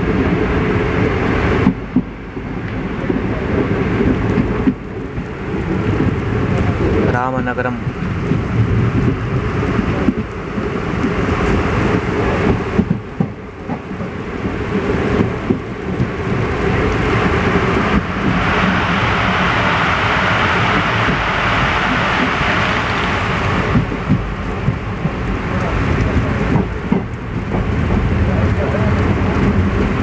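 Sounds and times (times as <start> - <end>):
heavy rain hissing: 0.0 - 30.0
train wheels clattering on rails: 1.4 - 30.0.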